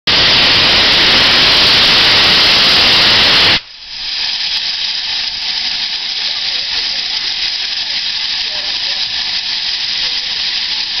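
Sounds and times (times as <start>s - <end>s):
steam locomotive hissing steam: 0.1s - 11.0s.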